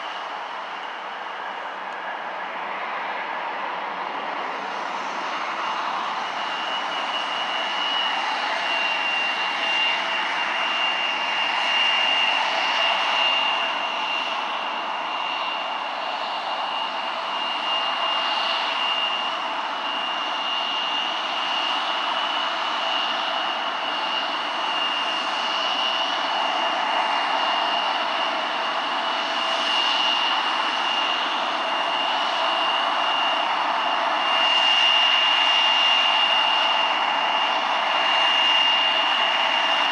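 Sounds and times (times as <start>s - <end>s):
jet engines whining at taxi power: 0.0s - 39.9s.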